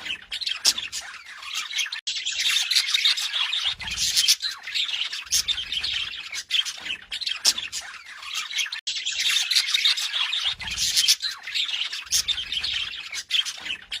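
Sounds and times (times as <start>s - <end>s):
budgerigars warbling and chattering: 0.0s - 14.0s.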